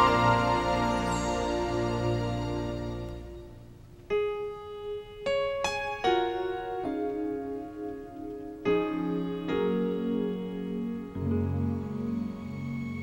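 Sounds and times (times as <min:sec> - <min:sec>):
slow gentle piano: 0:00.0 - 0:13.0.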